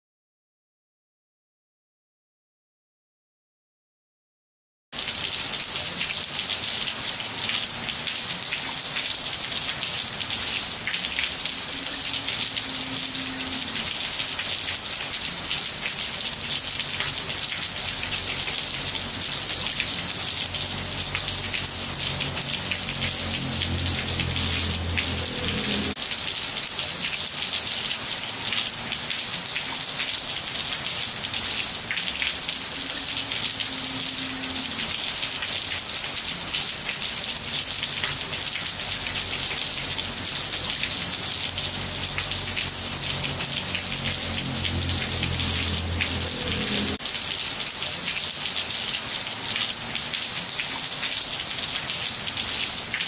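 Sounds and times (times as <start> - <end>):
rain on ceramic tiles: 5.0 - 53.0.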